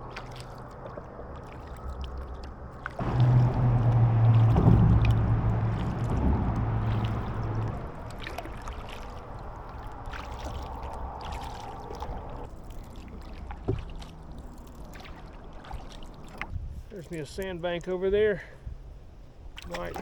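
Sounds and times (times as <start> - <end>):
water dripping and splashing: 0.0 - 16.5
kayak paddle strokes in water: 0.0 - 17.1.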